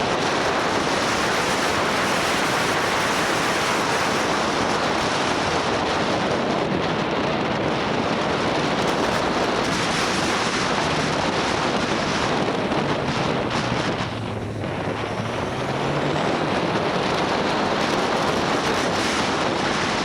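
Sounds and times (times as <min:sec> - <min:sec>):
motorbike engine hum: 0:00.0 - 0:20.0
wind rushing over microphone: 0:00.0 - 0:20.0.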